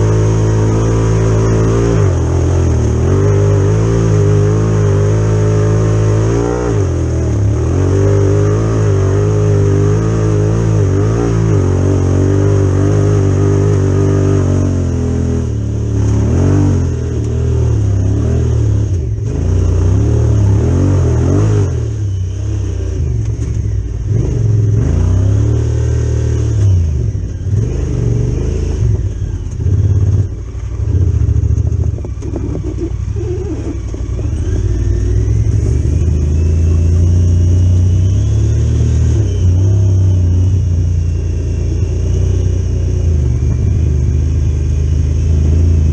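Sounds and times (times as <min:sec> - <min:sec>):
loud engine revving: 0:00.0 - 0:45.9.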